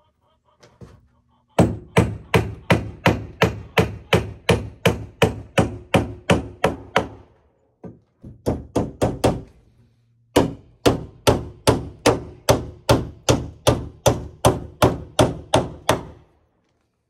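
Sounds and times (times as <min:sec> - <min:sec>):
hammer driving nails into wood: 0:01.6 - 0:09.6, 0:10.3 - 0:16.2.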